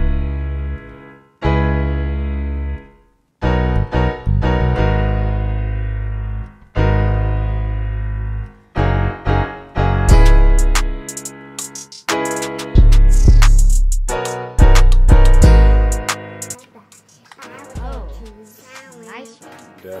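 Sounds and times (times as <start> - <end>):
keyboard chords: 0.0 - 20.0.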